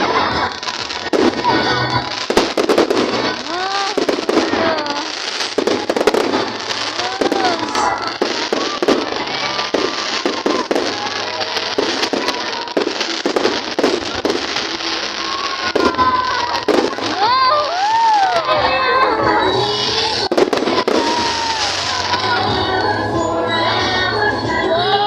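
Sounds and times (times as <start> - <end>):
fireworks bangs and crackling pops: 0.0 - 18.6, 19.3 - 23.2.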